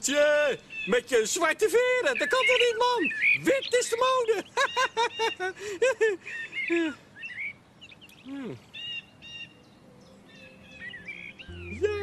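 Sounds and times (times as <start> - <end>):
bird chirps and calls: 0.6 - 1.1, 2.0 - 5.5, 6.3 - 12.0.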